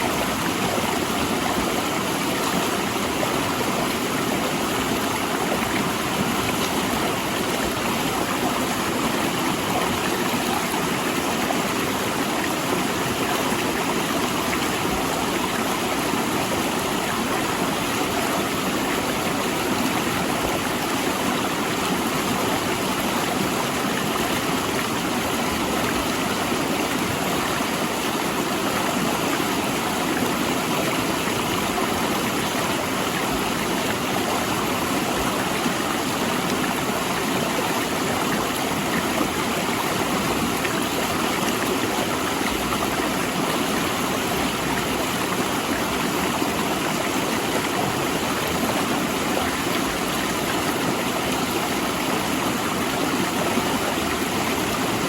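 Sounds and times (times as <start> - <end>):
river rushing over boulders: 0.0 - 55.0.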